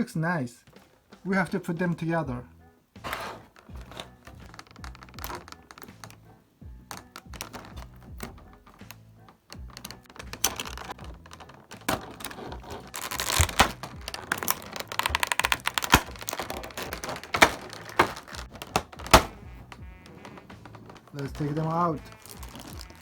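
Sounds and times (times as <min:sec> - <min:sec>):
cardboard box handling clicks and taps: 0:03.0 - 0:23.0
plastic packaging crinkling: 0:03.0 - 0:23.0.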